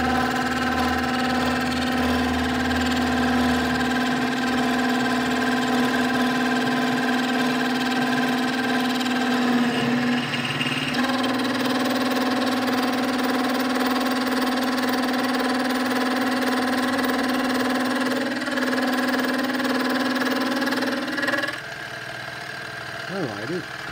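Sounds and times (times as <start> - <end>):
micro mill cutting with steady whine: 0.0 - 23.9.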